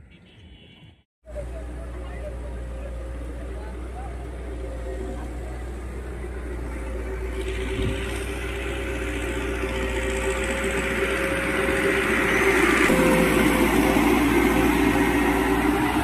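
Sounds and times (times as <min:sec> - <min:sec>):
truck engine whining: 0:01.3 - 0:16.0.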